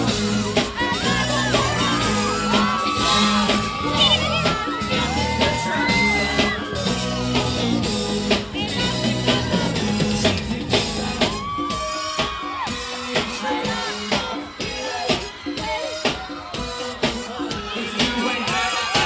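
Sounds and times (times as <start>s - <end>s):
bass guitar: 0.0s - 19.0s
drums with steady beat: 0.0s - 19.0s
man singing: 0.0s - 19.0s.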